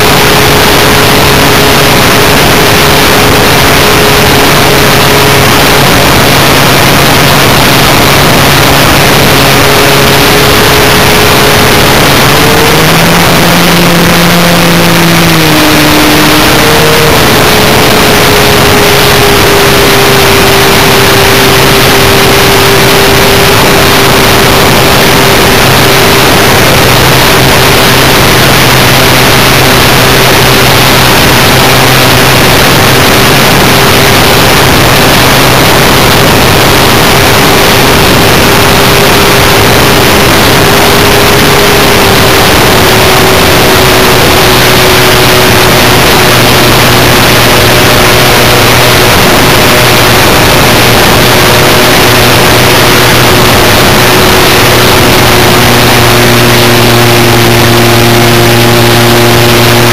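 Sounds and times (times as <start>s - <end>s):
model plane motor droning: 0.0s - 59.9s.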